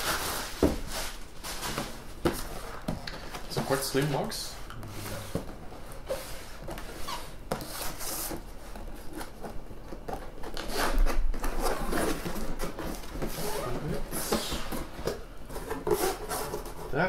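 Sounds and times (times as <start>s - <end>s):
handling knocks and rustles: 0.0s - 16.9s.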